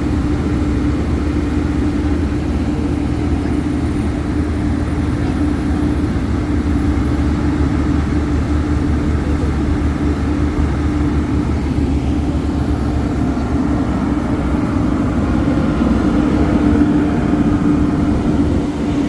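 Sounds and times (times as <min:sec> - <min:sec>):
heavy engine rumbling: 0:00.0 - 0:19.0.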